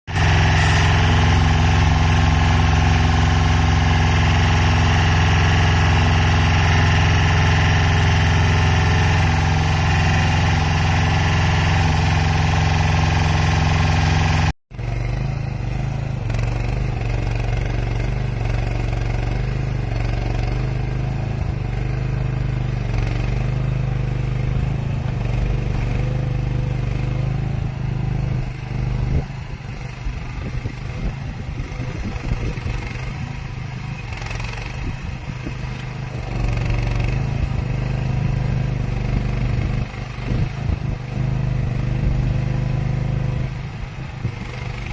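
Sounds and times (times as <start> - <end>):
loader engine running: 0.1 - 44.9.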